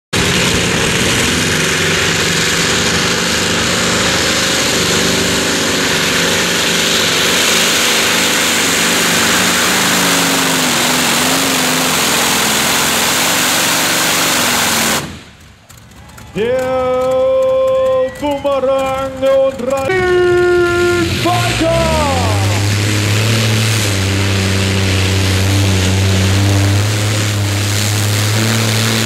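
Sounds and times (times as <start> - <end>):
tractor engine running hard: 0.1 - 29.0.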